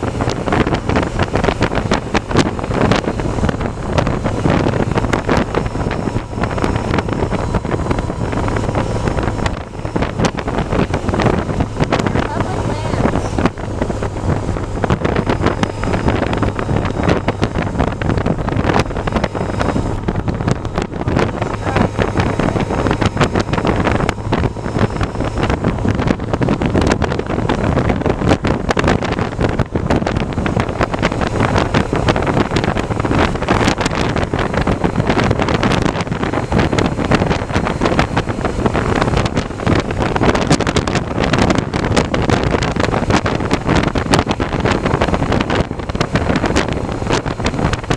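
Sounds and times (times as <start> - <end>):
faint low drone: 0.0 - 40.9
wind buffeting microphone: 0.0 - 47.9.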